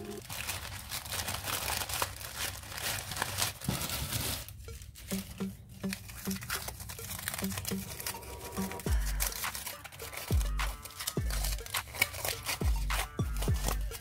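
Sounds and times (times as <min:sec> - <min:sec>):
packaging crinkling and tearing: 0:00.0 - 0:14.0.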